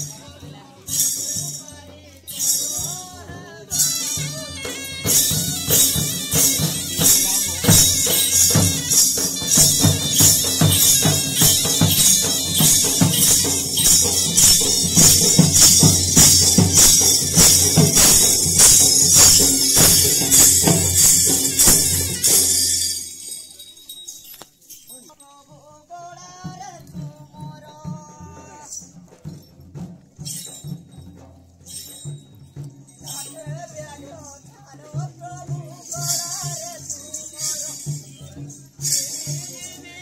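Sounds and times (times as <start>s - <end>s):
drums beaten fast: 0.0s - 23.6s, 25.8s - 40.0s
metallic jingling: 0.8s - 40.0s.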